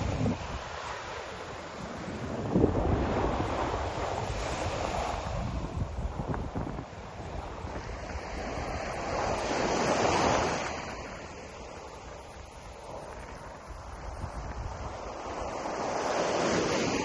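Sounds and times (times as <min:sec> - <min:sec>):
ocean waves washing ashore: 0:00.0 - 0:17.0
wind buffeting microphone: 0:00.0 - 0:17.0.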